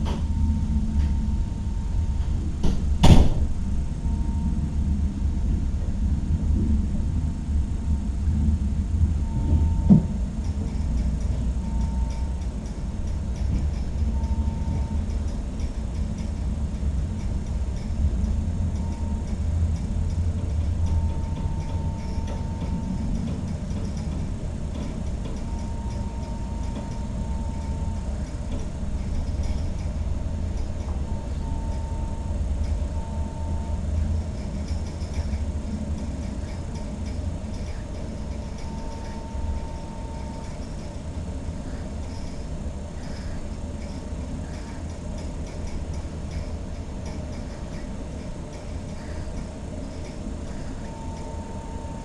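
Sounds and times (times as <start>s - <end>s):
low rumble hum: 0.0s - 52.0s.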